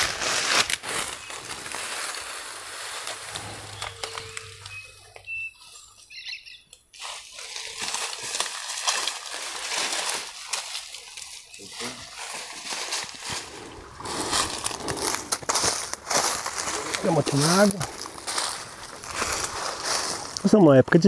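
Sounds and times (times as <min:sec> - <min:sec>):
footsteps crunching dry leaves: 0:00.0 - 0:06.2, 0:06.9 - 0:20.6.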